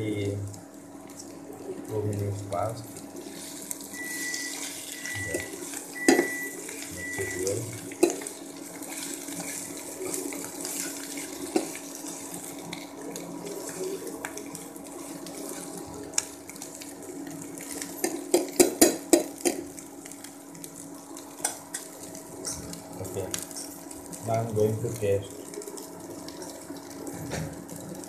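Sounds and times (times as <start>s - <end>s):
frying hiss: 0.0s - 28.0s.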